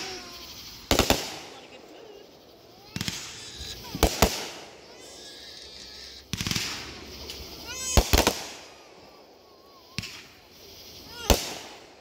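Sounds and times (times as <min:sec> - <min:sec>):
fireworks loud bangs: 0:00.0 - 0:02.2, 0:02.8 - 0:12.0
fireworks crackling: 0:00.0 - 0:12.0.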